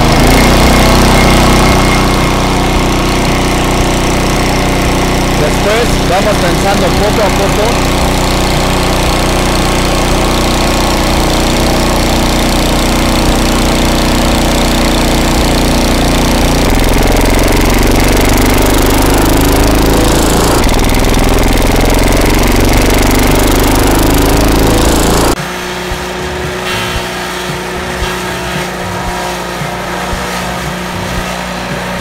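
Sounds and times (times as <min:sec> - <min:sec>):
rising rotor tone: 0:00.0 - 0:32.0
small gasoline engine running: 0:00.0 - 0:32.0.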